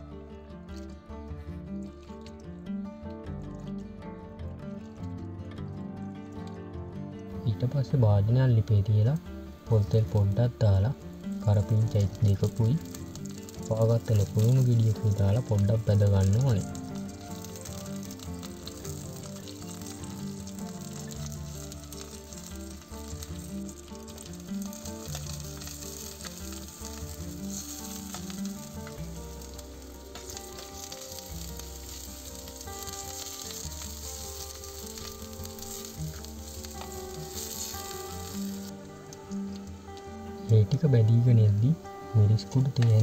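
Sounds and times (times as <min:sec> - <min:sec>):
onions sizzling in hot oil: 0:08.1 - 0:43.0.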